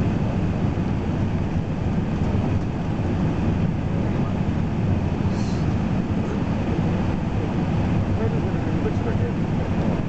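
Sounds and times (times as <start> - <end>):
aircraft engine hum: 0.0 - 10.0.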